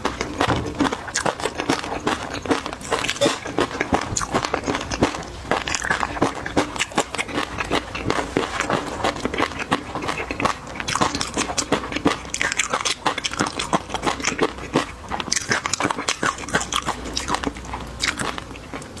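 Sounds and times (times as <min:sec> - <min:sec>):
person chewing with wet smacks: 0:00.0 - 0:19.0.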